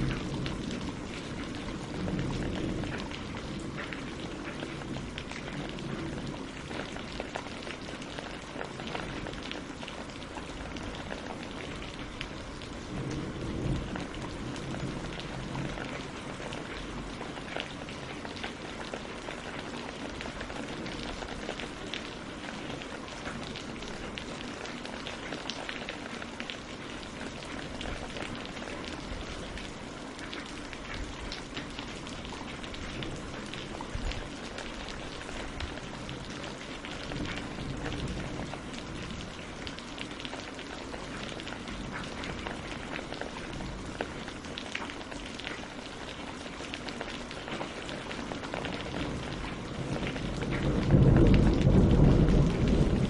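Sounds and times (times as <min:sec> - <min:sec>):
rain on leaves and water: 0:00.0 - 0:53.0.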